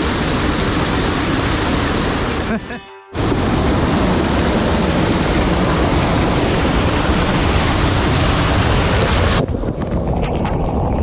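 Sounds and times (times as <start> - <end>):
waterfall rushing over rock: 0.0 - 9.5.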